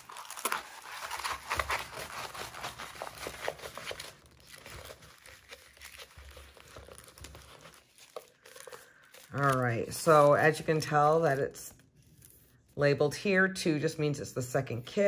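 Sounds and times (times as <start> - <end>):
paper crinkling and rustling: 0.0 - 12.7.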